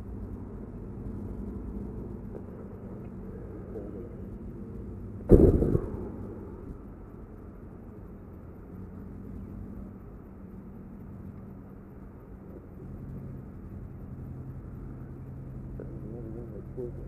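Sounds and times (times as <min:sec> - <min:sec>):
engine-like rumble: 0:00.0 - 0:17.0.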